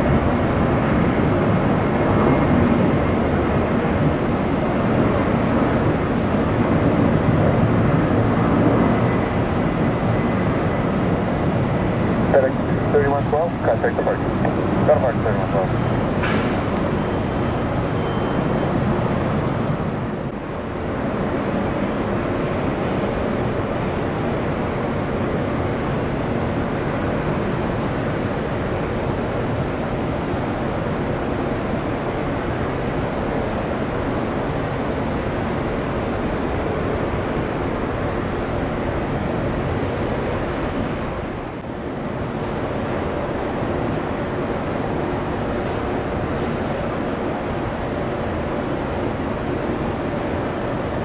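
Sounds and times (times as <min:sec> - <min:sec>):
faint steady whine: 0:00.0 - 0:51.0
jet engine rumble and hiss: 0:00.0 - 0:51.0.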